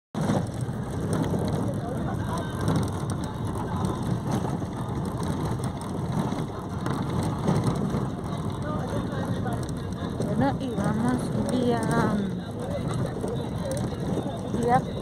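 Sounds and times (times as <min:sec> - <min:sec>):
bus body rattling and clicking: 0:00.1 - 0:15.0
bus engine and road rumble: 0:00.1 - 0:15.0.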